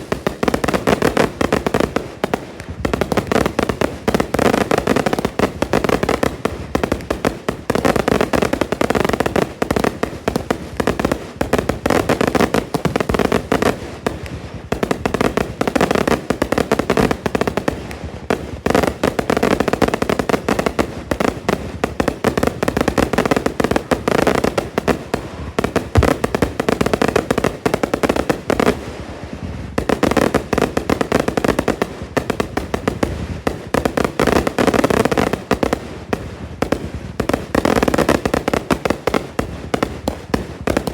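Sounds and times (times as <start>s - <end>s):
fireworks bangs and pops: 0.0s - 40.9s.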